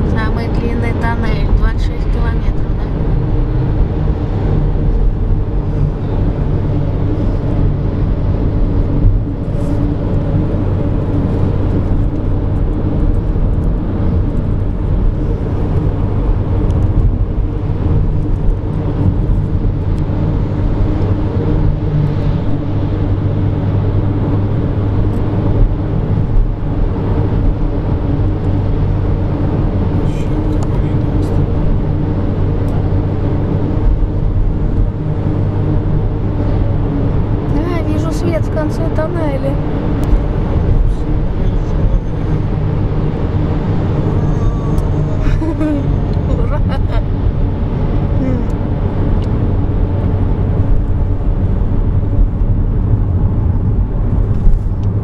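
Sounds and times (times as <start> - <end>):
car engine and tyre drone: 0.0 - 55.0
low hum: 0.0 - 55.0.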